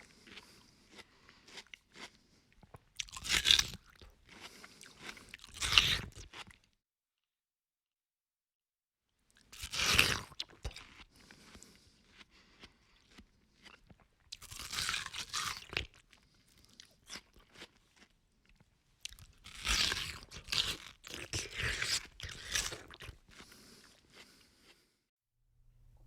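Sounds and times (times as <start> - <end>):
man chewing watermelon: 0.0 - 6.6, 9.5 - 24.9.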